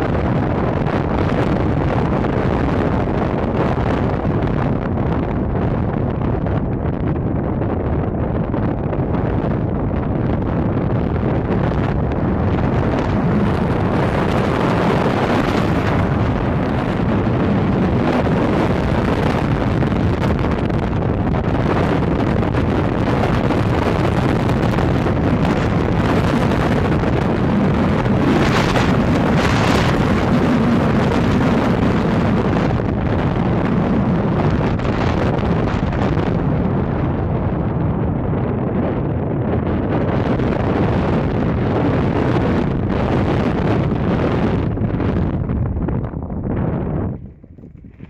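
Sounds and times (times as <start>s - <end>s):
engine and road rumble: 0.0s - 48.0s
wind rushing over microphone: 0.0s - 48.0s.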